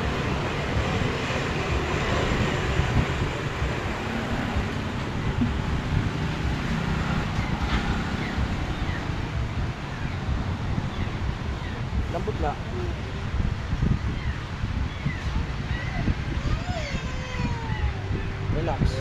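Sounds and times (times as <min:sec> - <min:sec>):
steady rumbling background noise: 0:00.0 - 0:19.0.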